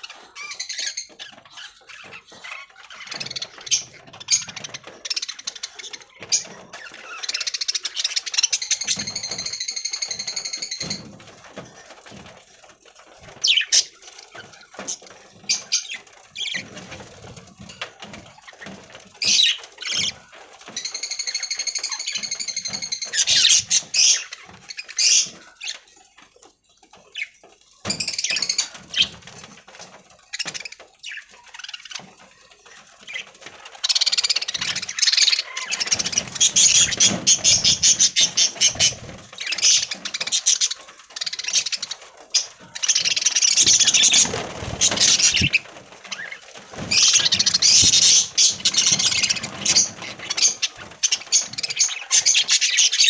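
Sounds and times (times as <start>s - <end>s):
budgies chirping: 0.0s - 12.3s, 13.2s - 26.3s, 26.9s - 53.0s.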